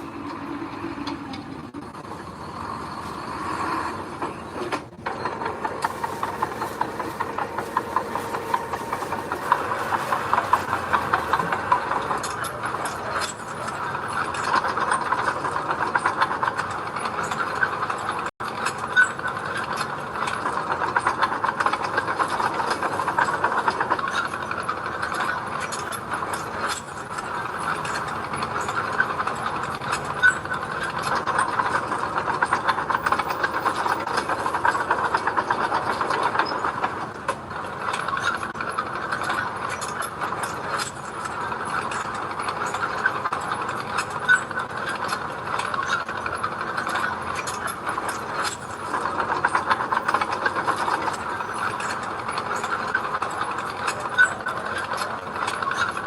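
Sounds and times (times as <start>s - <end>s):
diesel engine under load: 0.0s - 56.0s
steel tracks clanking: 0.0s - 56.0s.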